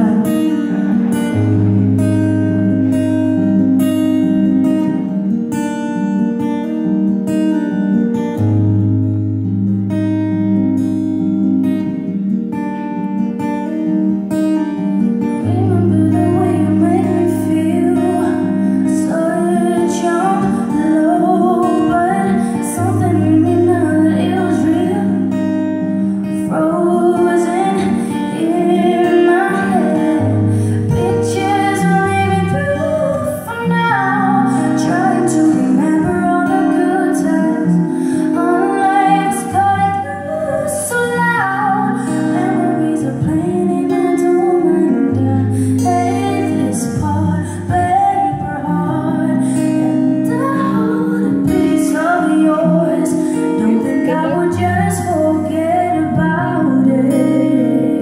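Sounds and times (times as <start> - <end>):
woman singing: 0.0 - 7.7, 13.4 - 58.0
acoustic guitar: 0.0 - 58.0.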